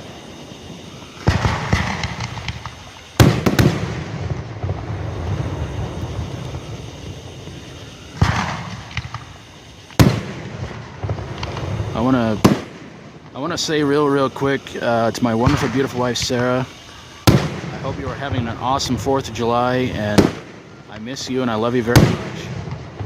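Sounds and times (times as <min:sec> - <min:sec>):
fireworks booming: 0:00.0 - 0:23.0
fireworks crackling and rumbling: 0:00.0 - 0:23.0.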